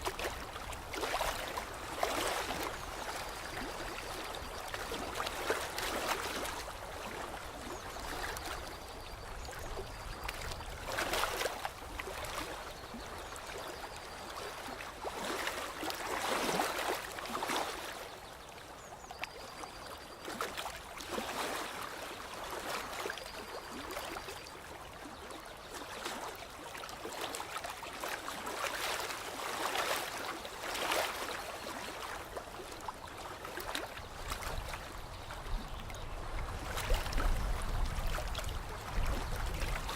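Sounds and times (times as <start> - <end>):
water lapping and trickling: 0.0 - 39.9.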